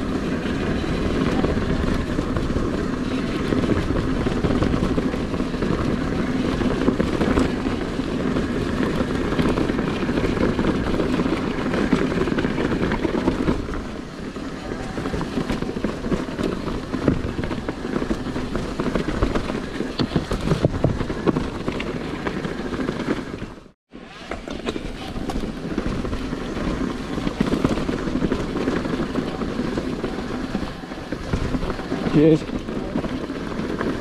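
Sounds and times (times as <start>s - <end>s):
bike rattling and knocking: 0.0s - 34.0s
bike tyres rumbling on rough trail: 0.0s - 34.0s.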